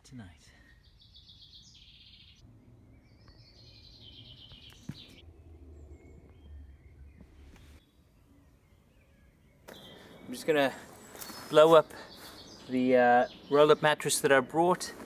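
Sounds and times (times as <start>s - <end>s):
faint woodland background noise: 0.0s - 15.0s
songbird trilling: 0.8s - 14.6s.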